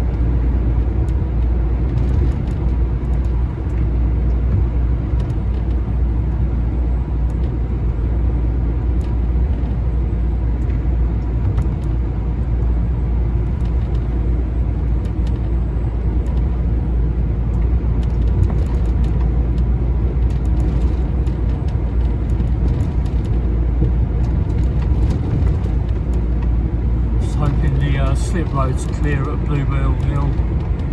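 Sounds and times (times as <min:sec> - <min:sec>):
lorry engine and road rumble: 0:00.0 - 0:30.9.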